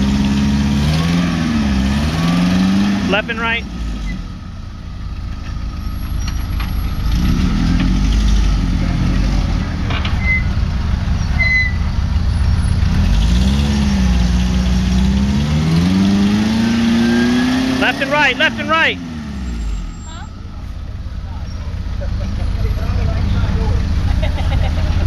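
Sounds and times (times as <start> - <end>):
car engine revving: 0.0 - 4.8, 5.9 - 25.0.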